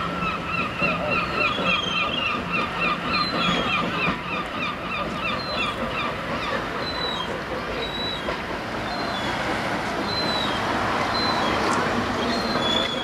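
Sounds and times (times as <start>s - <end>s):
train coaches rumbling on track: 0.0s - 13.0s.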